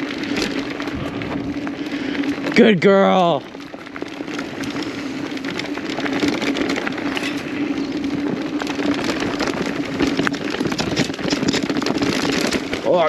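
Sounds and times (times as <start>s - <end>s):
bike clicks and rattles: 0.0s - 13.0s
bike tyres rolling on dirt trail: 0.0s - 13.0s.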